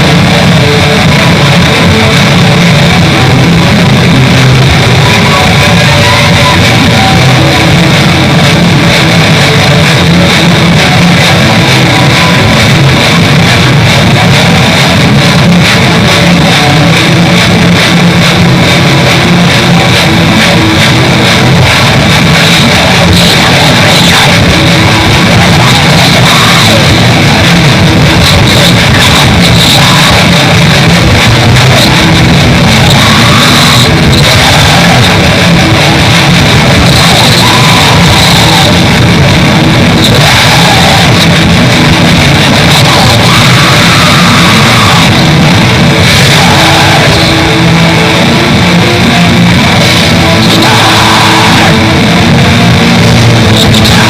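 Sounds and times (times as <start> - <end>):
black metal music: 0.0 - 54.0.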